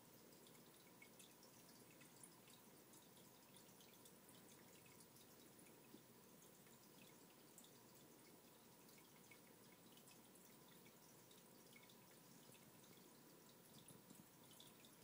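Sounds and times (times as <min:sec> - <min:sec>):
aquarium water hiss: 0:00.0 - 0:15.0
tiny water drips: 0:00.0 - 0:15.0.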